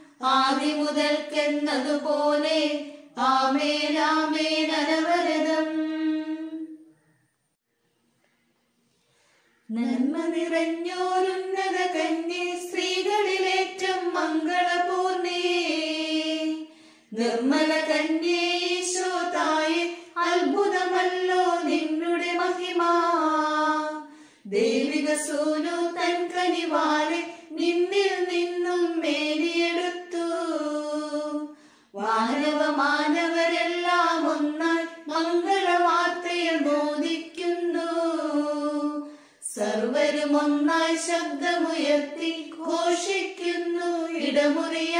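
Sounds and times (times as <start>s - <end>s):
high voices singing a hymn: 0.0s - 6.9s, 9.7s - 44.9s.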